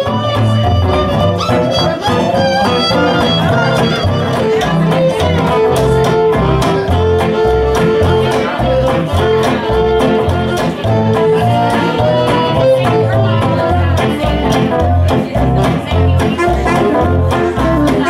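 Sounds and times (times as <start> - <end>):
acoustic guitar strumming: 0.0 - 18.0
fiddle: 0.0 - 18.0
swing band playing: 0.0 - 18.0
upright bass walking line: 0.0 - 18.0.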